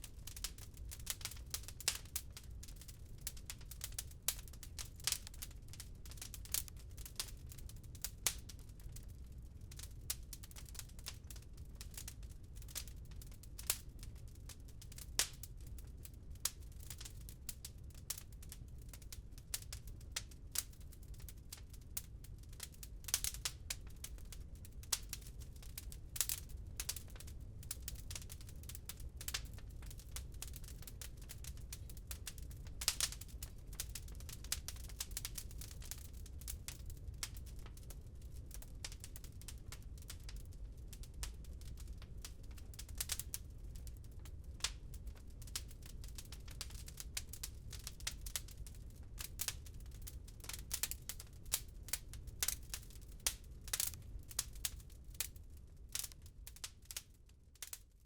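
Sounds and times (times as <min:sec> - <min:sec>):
low fire rumble: 0:00.0 - 0:57.9
wood fire crackling: 0:00.0 - 0:58.0.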